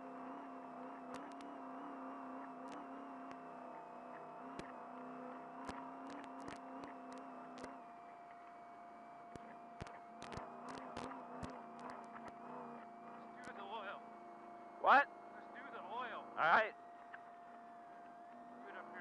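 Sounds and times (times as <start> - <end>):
truck engine drone with whine: 0.0 - 19.0.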